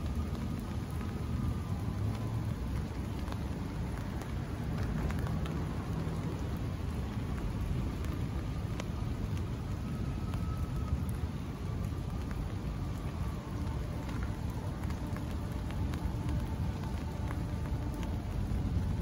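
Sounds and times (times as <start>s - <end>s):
raindrops tapping on umbrella: 0.0s - 19.0s.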